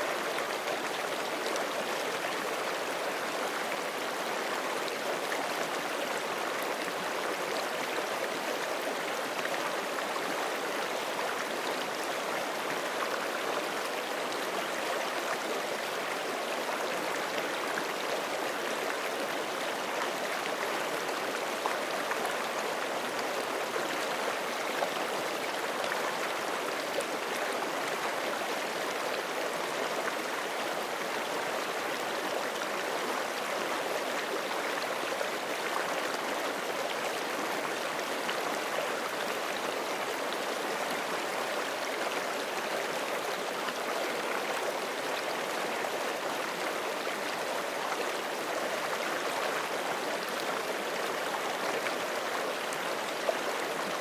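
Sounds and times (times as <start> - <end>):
creek flowing over rocks: 0.0 - 54.0.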